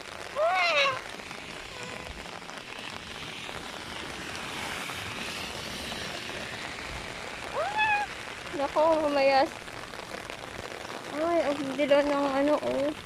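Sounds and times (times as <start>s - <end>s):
rain falling on standing water: 0.0s - 13.0s.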